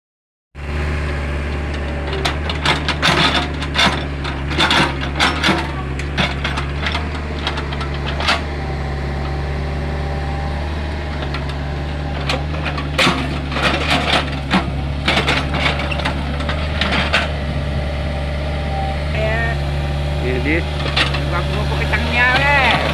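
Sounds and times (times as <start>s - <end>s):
excavator diesel engine: 0.6s - 22.9s.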